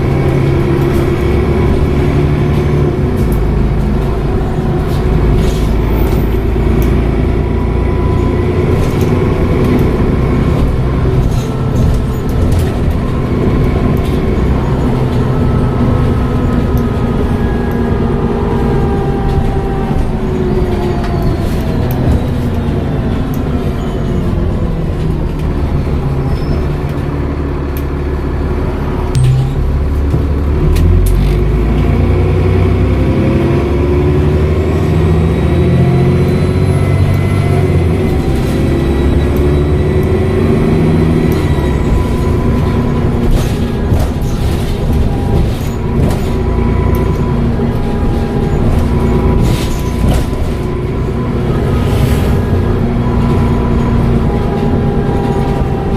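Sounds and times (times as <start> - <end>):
bus engine running: 0.0 - 55.9
gearbox whine: 0.0 - 55.9.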